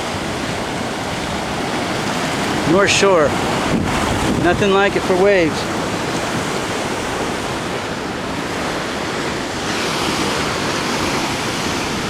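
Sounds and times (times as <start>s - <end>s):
ocean waves crashing on rocks: 0.0s - 12.0s
wind buffeting microphone: 0.0s - 12.0s.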